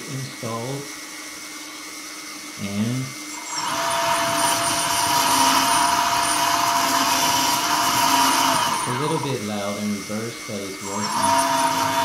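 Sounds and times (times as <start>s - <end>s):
electric motor gears whirring: 0.0s - 12.0s.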